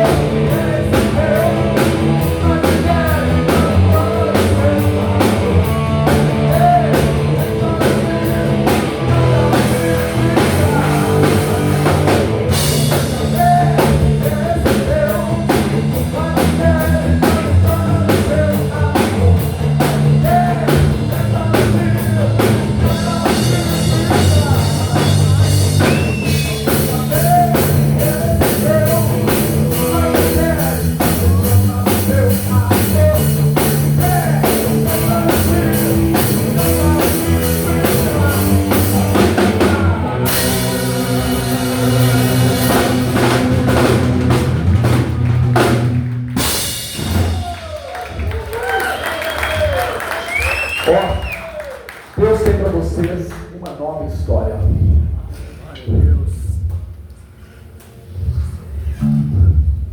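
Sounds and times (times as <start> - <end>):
rock band playing live: 0.0 - 51.4.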